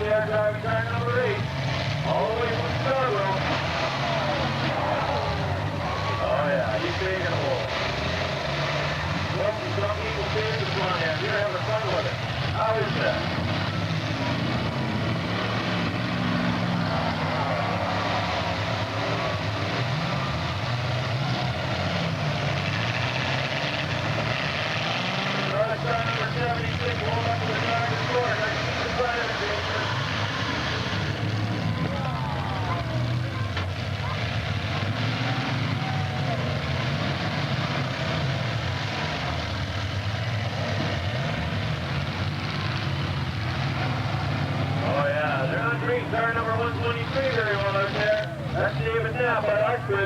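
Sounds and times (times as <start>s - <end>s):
car engines revving: 0.0s - 50.0s.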